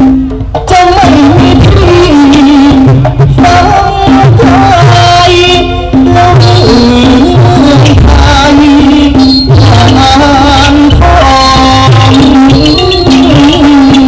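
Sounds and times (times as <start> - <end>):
instrumental music with deep bass: 0.0 - 14.0
man singing into a microphone: 0.7 - 14.0.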